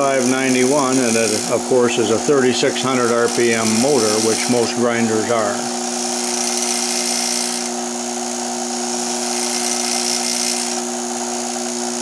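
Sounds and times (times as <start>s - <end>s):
bench grinder running: 0.0s - 12.0s.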